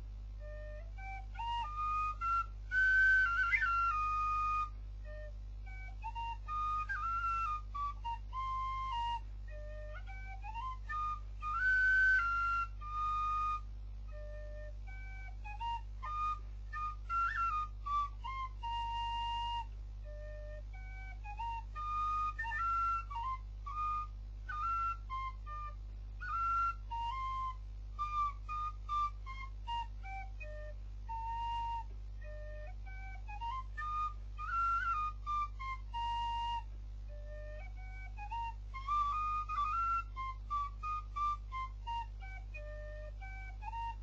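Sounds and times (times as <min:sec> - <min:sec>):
wooden flute melody: 0:00.0 - 0:44.0.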